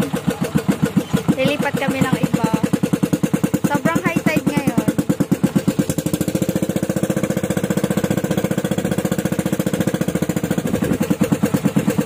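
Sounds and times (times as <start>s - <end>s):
boat engine chugging: 0.0s - 12.0s.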